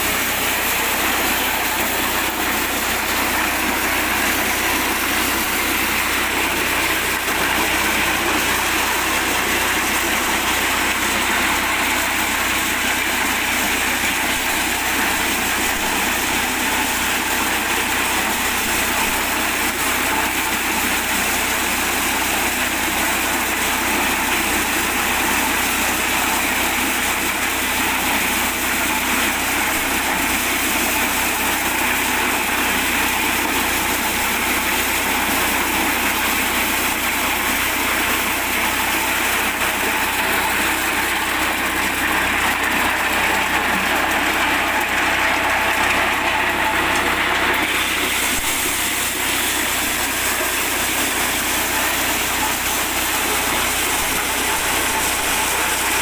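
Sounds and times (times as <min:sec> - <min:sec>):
corn sheller engine running: 0:00.0 - 0:56.0.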